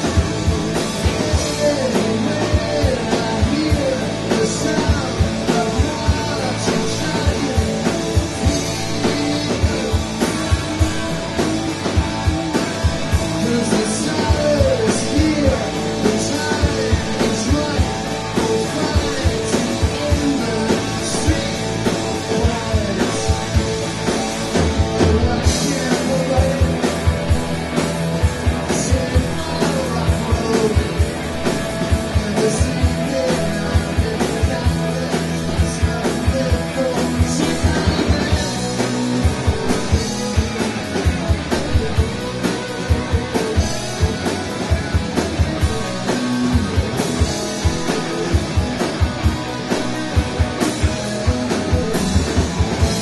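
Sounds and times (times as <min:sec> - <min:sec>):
lead electric guitar bending lines: 0:00.0 - 0:53.0
rock band playing live: 0:00.0 - 0:53.0
steady drum beat: 0:00.0 - 0:53.0.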